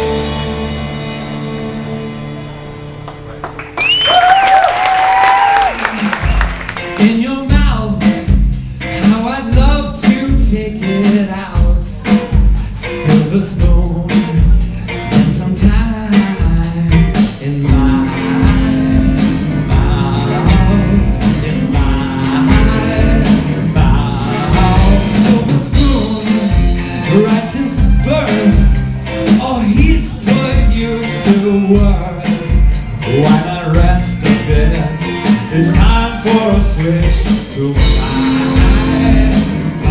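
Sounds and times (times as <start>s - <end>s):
live band playing: 0.0s - 39.9s
steady drum beat: 5.2s - 39.9s
person singing: 6.8s - 39.9s.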